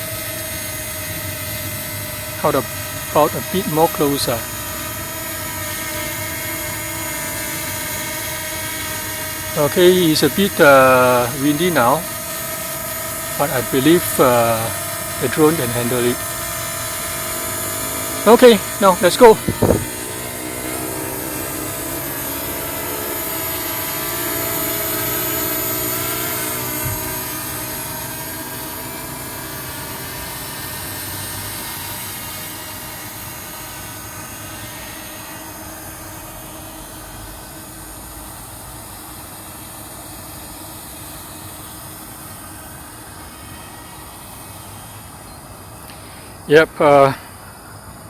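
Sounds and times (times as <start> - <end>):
drone propellers buzzing: 0.0 - 48.0.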